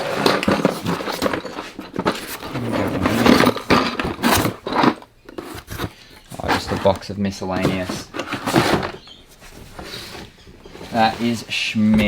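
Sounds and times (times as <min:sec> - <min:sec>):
cardboard box rustling and scraping: 0:00.0 - 0:12.0.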